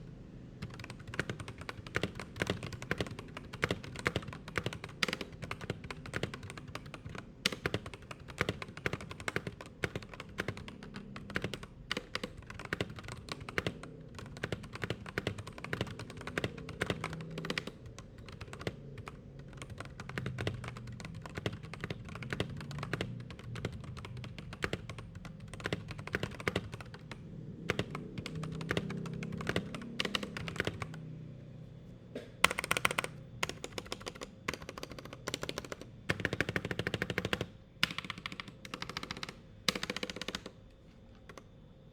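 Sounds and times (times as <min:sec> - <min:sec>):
mechanical keyboard typing: 0:00.6 - 0:31.1, 0:32.3 - 0:41.5.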